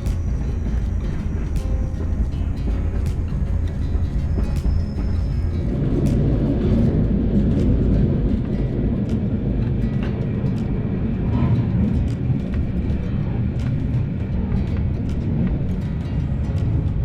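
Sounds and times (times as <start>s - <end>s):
clicks from wheels and track: 0.0s - 17.0s
train running low rumble: 0.0s - 17.0s.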